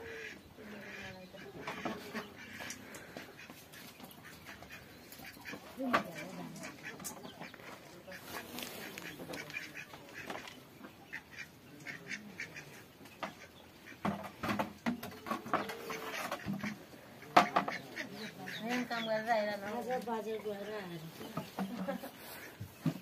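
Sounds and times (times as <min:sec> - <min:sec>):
ducks calling: 0:00.0 - 0:23.0.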